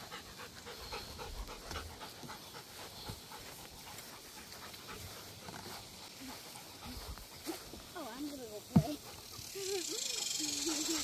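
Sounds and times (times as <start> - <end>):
dog panting faintly: 0.0 - 11.0.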